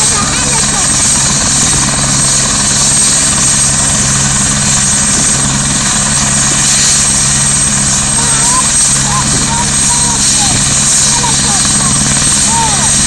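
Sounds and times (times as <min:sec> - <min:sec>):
helicopter rotor drone: 0:00.0 - 0:13.0.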